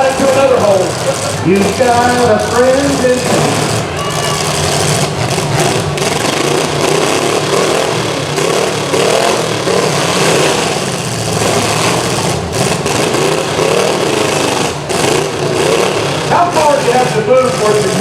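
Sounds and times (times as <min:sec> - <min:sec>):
several car engines revving: 0:00.0 - 0:18.0.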